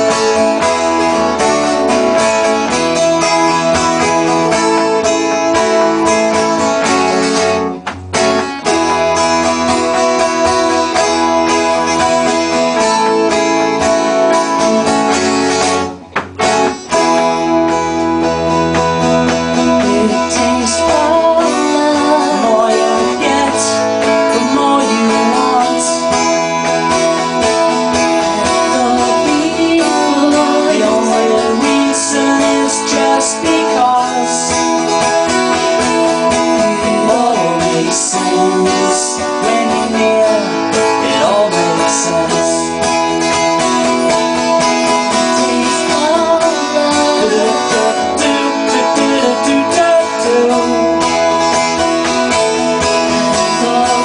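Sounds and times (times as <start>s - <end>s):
acoustic guitars strumming: 0.0s - 54.0s
held keyboard notes: 0.0s - 54.0s.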